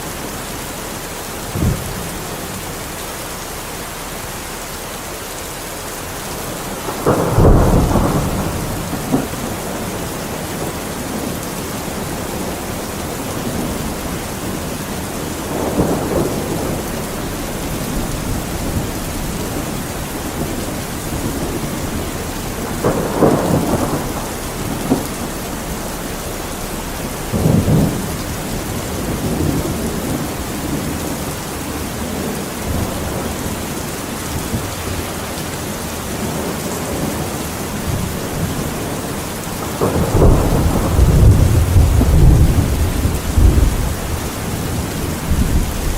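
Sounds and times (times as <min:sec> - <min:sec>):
heavy rain: 0:00.0 - 0:45.9
thunder rumbling: 0:01.0 - 0:03.0, 0:06.1 - 0:45.9.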